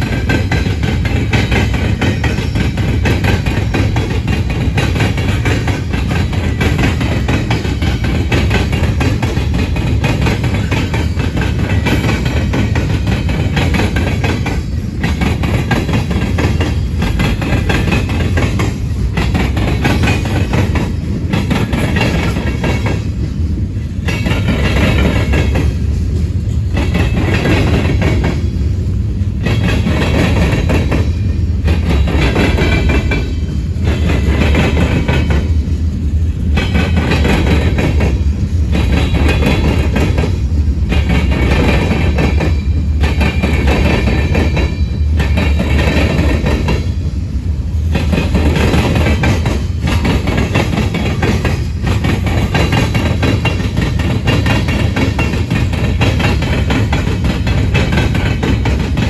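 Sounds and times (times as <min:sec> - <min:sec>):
wheels clacking over rail joints: 0:00.0 - 0:28.7, 0:29.3 - 0:59.0
freight train rumbling past: 0:00.0 - 0:59.0.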